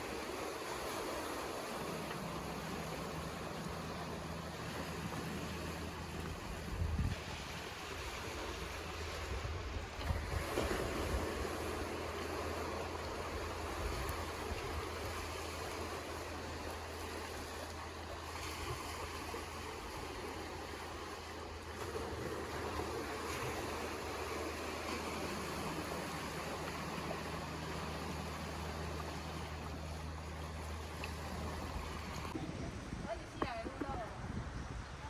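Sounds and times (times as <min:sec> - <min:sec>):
waves washing on shore: 0:00.0 - 0:35.0.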